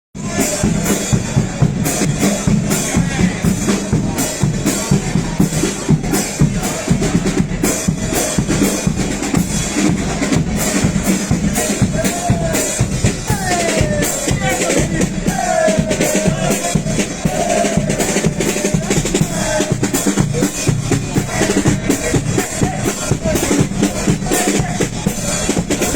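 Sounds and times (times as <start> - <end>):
bass drum and snare beating: 0.2 - 25.9
voices singing or calling: 0.2 - 25.9.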